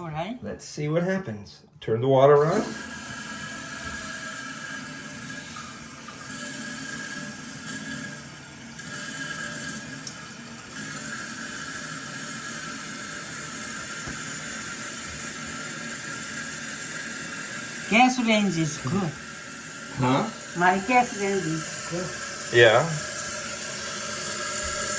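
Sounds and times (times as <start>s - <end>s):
toilet tank refilling: 2.3s - 24.9s.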